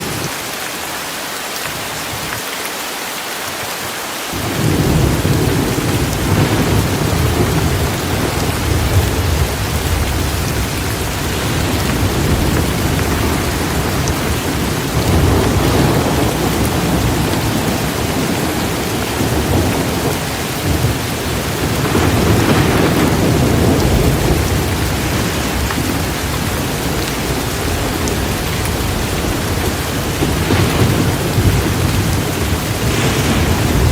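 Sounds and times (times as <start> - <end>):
steady rain hiss: 0.0 - 33.9
deep rolling thunder: 4.4 - 33.9.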